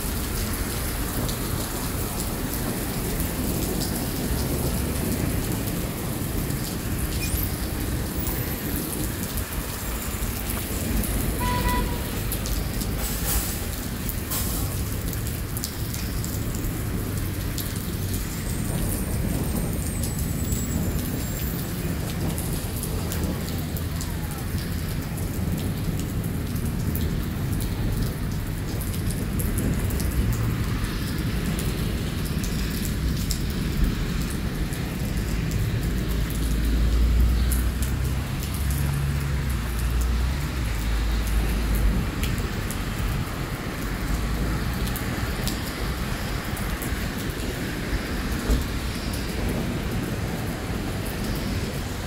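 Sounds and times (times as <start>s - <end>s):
heavy rain on pavement: 0.0s - 52.0s.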